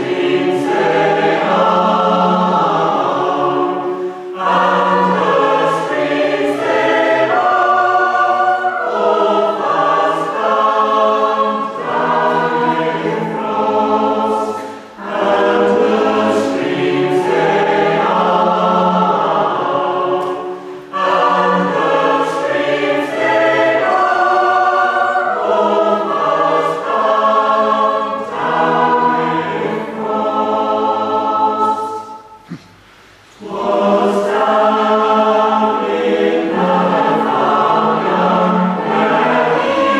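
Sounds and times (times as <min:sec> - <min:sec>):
mixed choir singing carol: 0:00.0 - 0:39.9.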